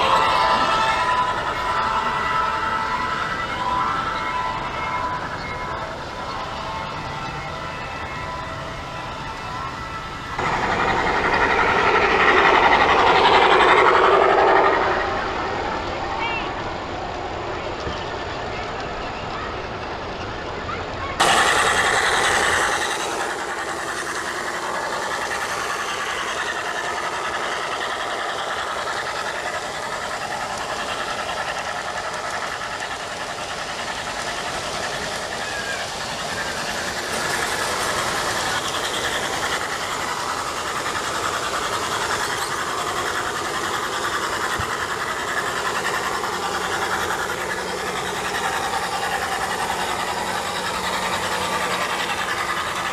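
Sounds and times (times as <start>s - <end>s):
model trains running on track: 0.0s - 52.9s.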